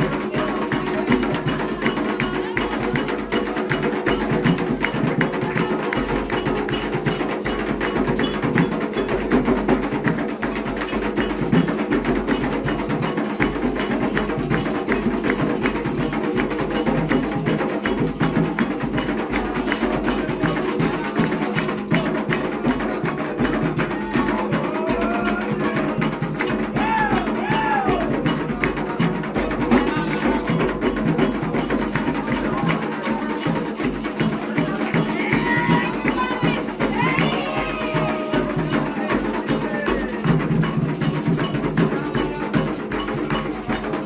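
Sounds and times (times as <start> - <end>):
clacking struck percussion: 0.0 - 44.0
hand drums: 0.0 - 44.0.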